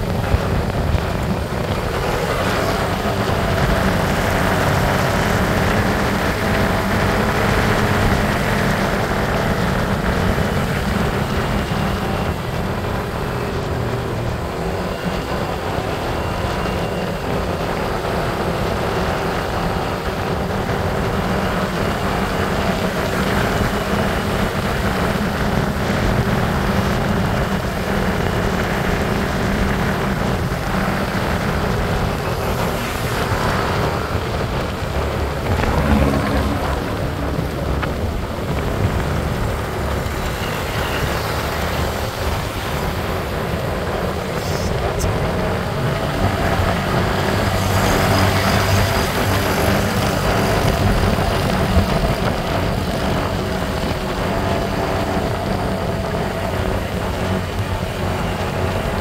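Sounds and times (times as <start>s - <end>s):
motorbike engine cruising: 0.0s - 59.0s
wind and road noise: 0.0s - 59.0s.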